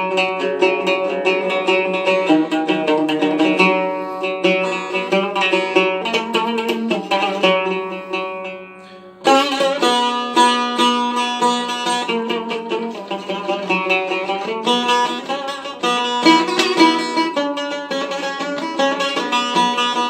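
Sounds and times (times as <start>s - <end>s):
plucked lute melody: 0.0s - 20.0s.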